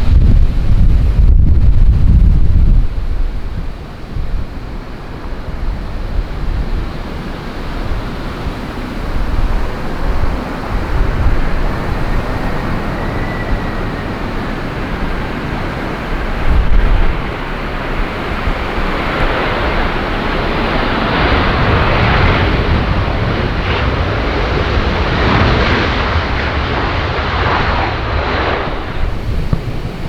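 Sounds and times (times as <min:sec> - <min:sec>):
jet airliner passing: 0:00.0 - 0:30.0
wind buffeting microphone: 0:00.0 - 0:30.0.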